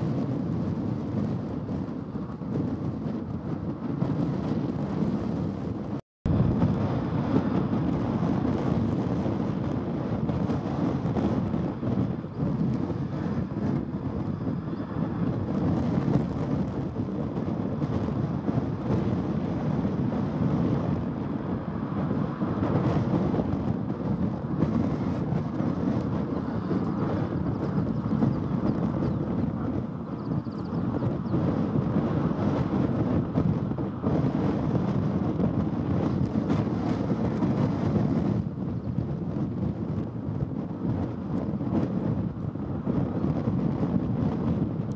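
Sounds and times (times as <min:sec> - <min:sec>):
jet airliner engine: 0:00.0 - 0:44.9
wind buffeting microphone: 0:00.0 - 0:44.9.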